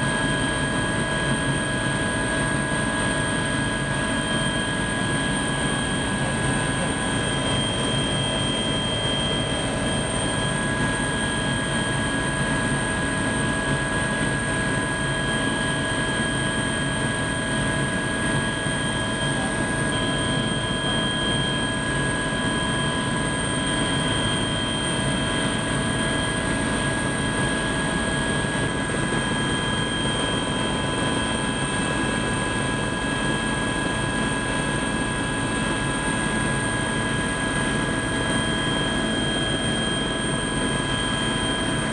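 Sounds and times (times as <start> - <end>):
helicopter engine and rotors: 0.0 - 41.9.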